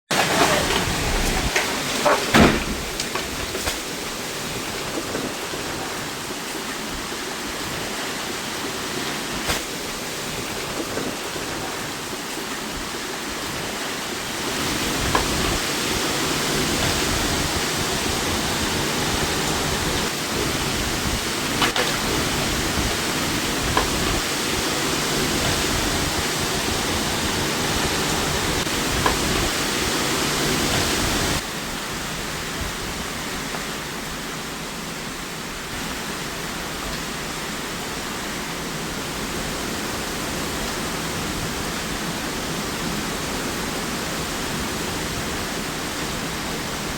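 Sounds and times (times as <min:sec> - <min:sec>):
heavy rain and wind: 0:00.1 - 0:46.9.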